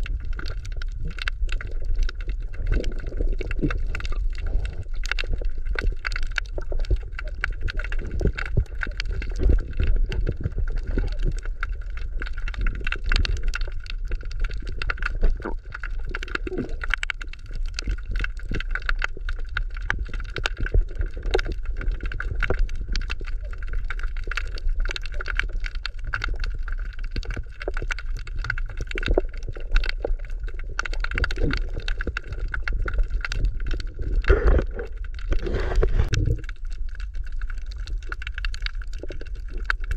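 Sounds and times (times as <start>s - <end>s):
dense crackling clicks: 0.0s - 39.9s
underwater rumble of moving water: 0.0s - 39.9s.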